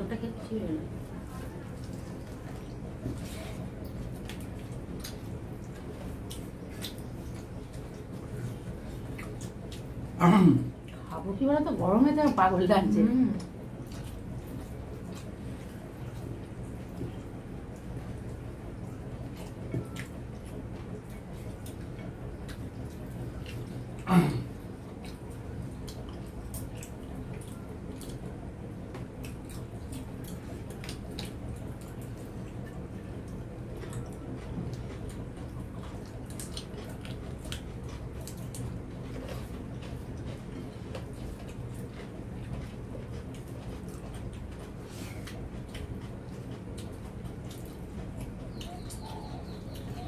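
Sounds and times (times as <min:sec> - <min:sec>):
soft squishes of food: 0:00.0 - 0:50.0
steady low hum: 0:00.0 - 0:50.0.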